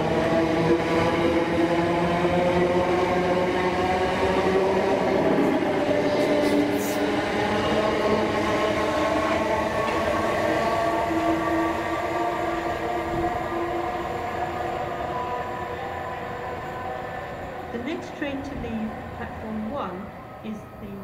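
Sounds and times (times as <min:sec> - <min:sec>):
train track noise: 0:00.0 - 0:21.0.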